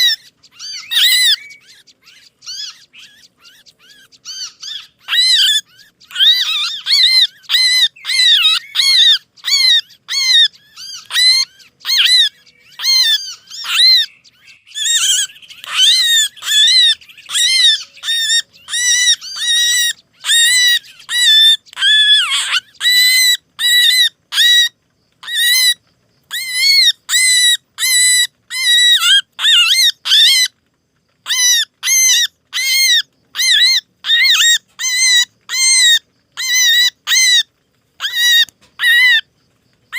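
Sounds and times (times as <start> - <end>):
harsh bird chirps: 0.0 - 39.9.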